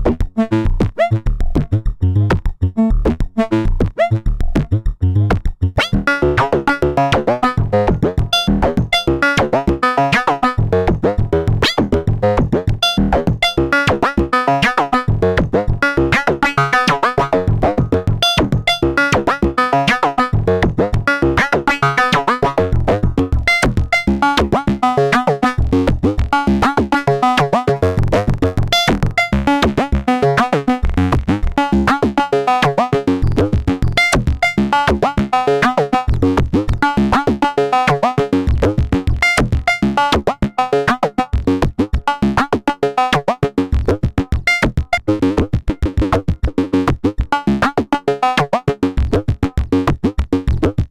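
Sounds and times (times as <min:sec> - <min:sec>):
plucky synth note sequence: 0:00.4 - 0:48.2.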